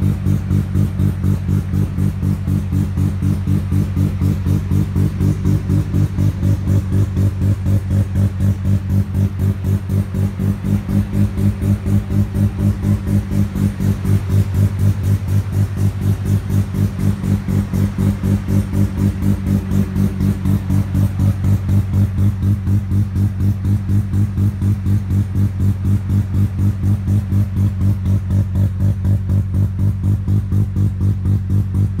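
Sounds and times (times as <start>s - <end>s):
rotary engine lumpy idle: 0.0s - 32.0s.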